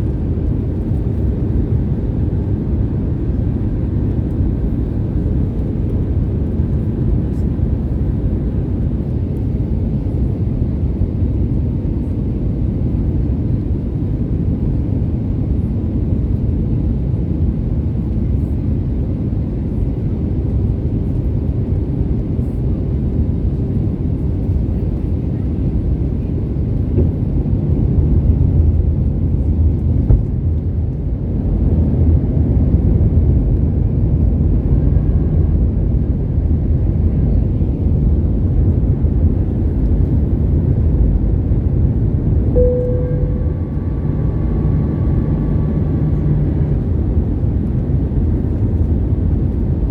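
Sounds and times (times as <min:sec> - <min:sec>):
deep rumble of airflow and jet engines: 0:00.0 - 0:49.9.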